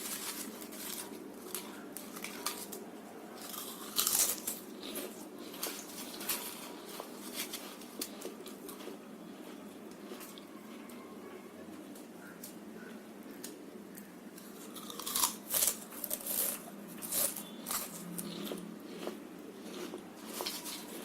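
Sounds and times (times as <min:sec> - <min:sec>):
crunching chips: 0:00.0 - 0:10.9, 0:13.4 - 0:21.0.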